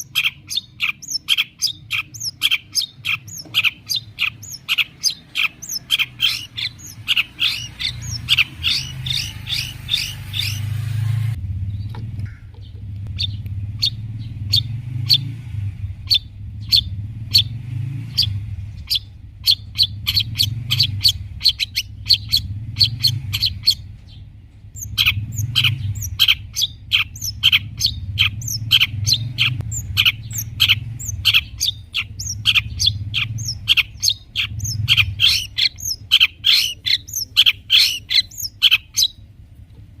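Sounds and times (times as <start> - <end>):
bird singing sharp chirps: 0.0 - 39.2
steady low hum: 0.0 - 40.0.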